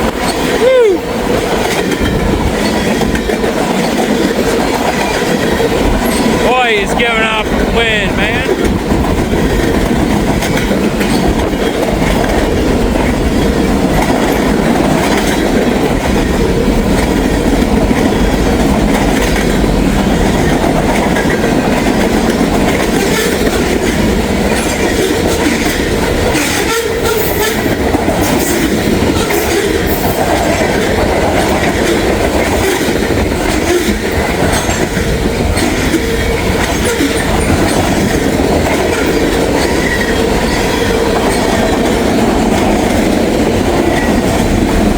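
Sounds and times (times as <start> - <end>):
sharp clicks of train wheels: 0.0 - 44.9
train wheels rumbling on rail: 0.0 - 44.9.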